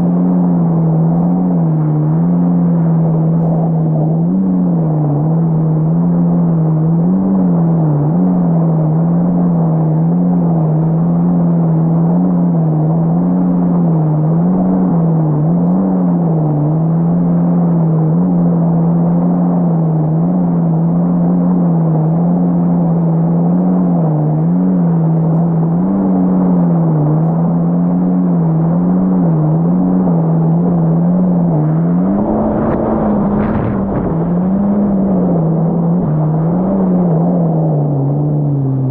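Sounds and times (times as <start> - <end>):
jet ski engine drone: 0.0 - 38.9.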